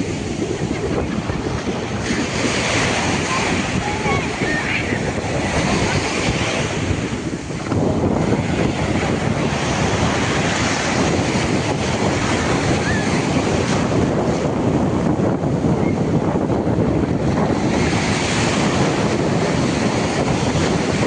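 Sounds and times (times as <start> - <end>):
ocean surf breaking on beach: 0.0 - 21.0
wind buffeting microphone: 0.0 - 21.0.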